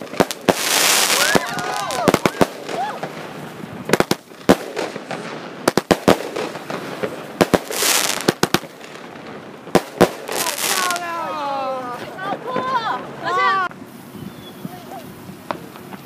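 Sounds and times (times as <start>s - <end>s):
fireworks bangs and cracks: 0.0s - 16.0s
fireworks hissing rush: 0.0s - 16.0s.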